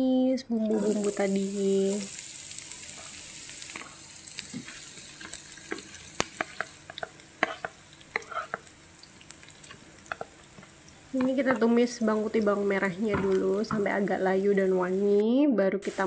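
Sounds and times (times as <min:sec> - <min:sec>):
shallots sizzling in hot oil: 0:00.6 - 0:15.2.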